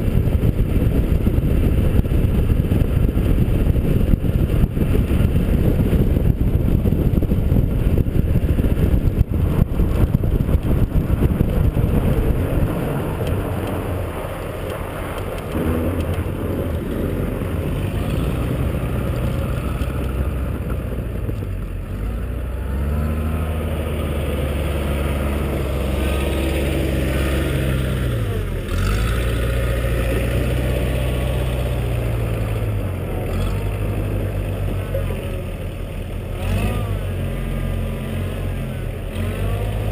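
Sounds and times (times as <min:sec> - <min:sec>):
wind buffeting: 0:00.0 - 0:34.9
diesel engine running: 0:00.0 - 0:39.9
tyre rush on road: 0:00.0 - 0:39.9.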